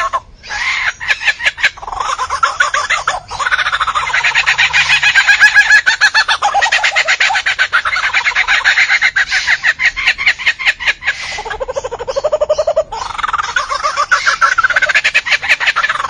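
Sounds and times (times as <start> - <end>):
lyrebird singing rapid calls: 0.0 - 16.0.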